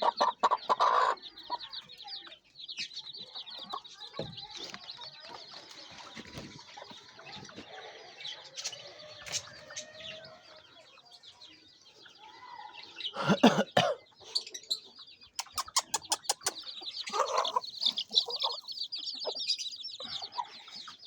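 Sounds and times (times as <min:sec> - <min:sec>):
chicken clucking: 0:00.0 - 0:21.0
small birds chirping: 0:00.0 - 0:21.0.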